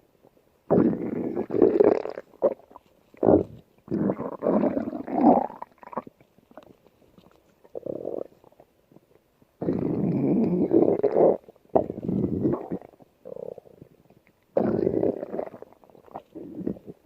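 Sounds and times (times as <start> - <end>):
stomach growling and gurgling: 0.7 - 17.0.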